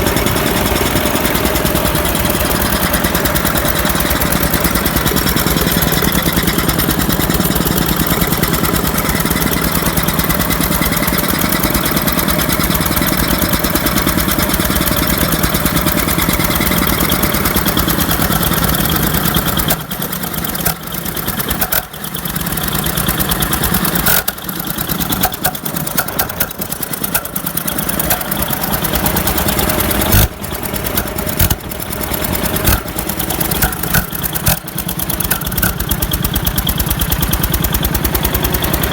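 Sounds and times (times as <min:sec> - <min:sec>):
pump engine running: 0:00.0 - 0:38.9.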